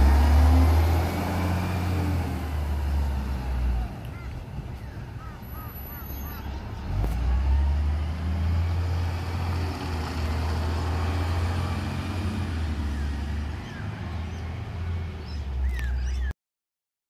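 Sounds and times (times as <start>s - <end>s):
diesel truck engine rumbling: 0.0s - 16.3s.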